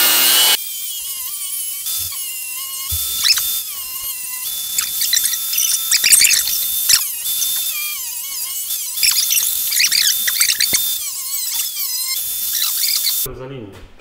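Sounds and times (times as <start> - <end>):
angle grinder whine: 0.0 - 13.3
disc squealing on metal: 0.9 - 13.3.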